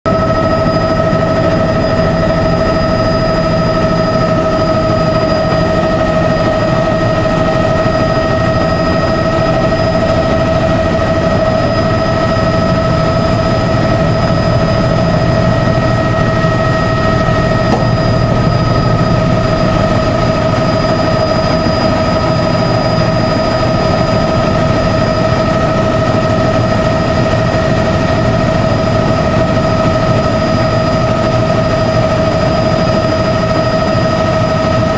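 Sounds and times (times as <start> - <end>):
helicopter rotor rumble: 0.1 - 34.9
helicopter turbine whine: 0.1 - 34.9.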